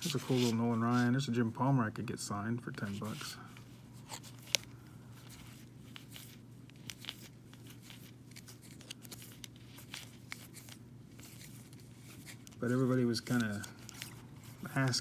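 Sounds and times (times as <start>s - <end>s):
plastic card sleeves crinkling: 0.0s - 1.4s, 2.6s - 15.0s
steady low hum: 0.0s - 15.0s.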